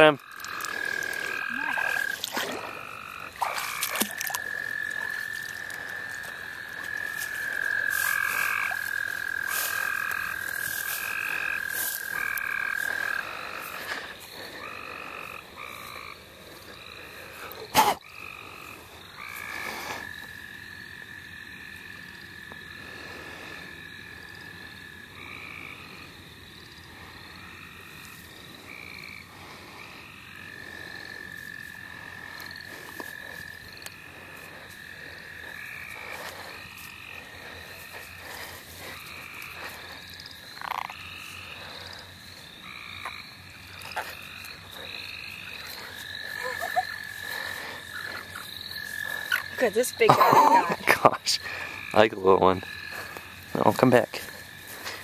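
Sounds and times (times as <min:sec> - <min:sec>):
frogs short trills: 0:00.0 - 0:55.0.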